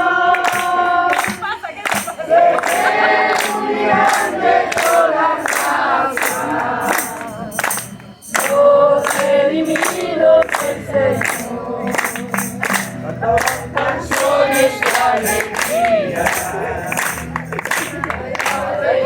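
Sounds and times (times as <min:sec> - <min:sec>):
group singing worship chorus: 0:00.0 - 0:19.0
sharp steady beat: 0:00.6 - 0:18.7.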